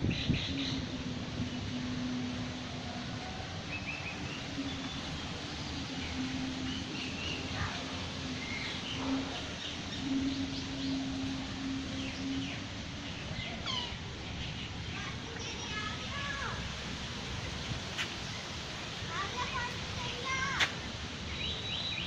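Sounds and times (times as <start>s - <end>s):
low hum: 0.0s - 19.0s
birds chirping: 0.0s - 22.0s
steady outdoor noise: 0.0s - 22.0s.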